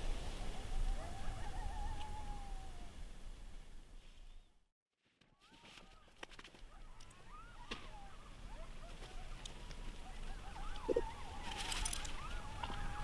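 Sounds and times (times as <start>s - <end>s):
distant coyotes howling and yipping: 0.2s - 3.1s, 5.4s - 13.0s.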